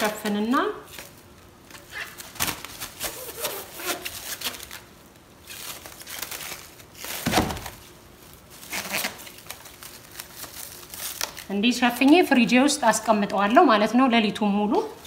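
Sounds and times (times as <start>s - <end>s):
plastic wrap crinkling: 0.0s - 13.6s.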